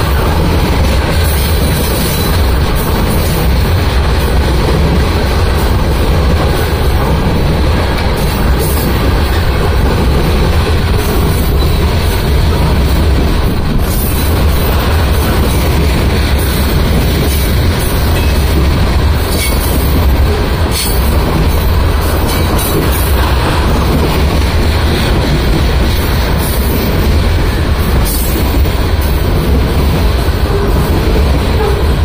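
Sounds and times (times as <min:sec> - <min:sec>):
freight train wheels rumbling: 0:00.0 - 0:32.0
wheels clanking over rail joints: 0:00.0 - 0:32.0.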